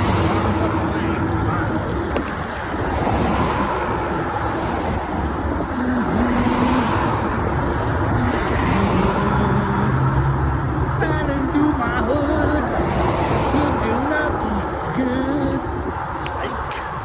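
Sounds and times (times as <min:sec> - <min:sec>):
bicycle rumbling along street: 0:00.0 - 0:17.0
road traffic: 0:00.0 - 0:17.0
wind on microphone: 0:00.0 - 0:17.0.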